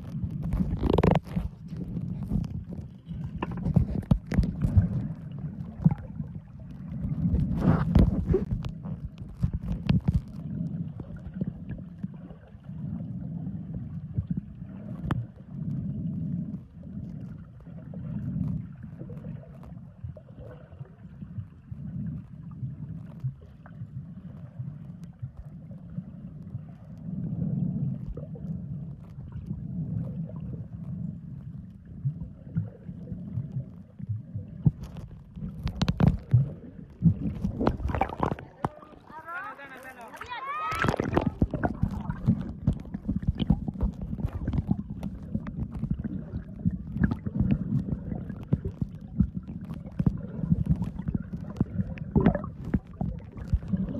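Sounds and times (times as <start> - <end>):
underwater rumbling and gurgling: 0.0 - 53.9.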